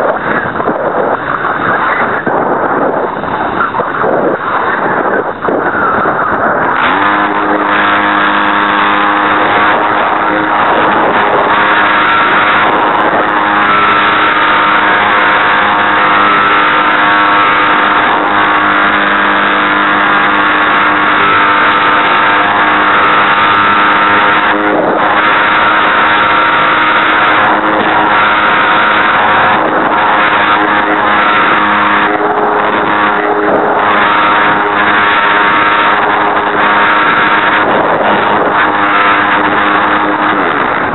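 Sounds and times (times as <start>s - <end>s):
electric motor and propeller whine: 0.0s - 40.9s
rushing wind noise: 0.0s - 40.9s.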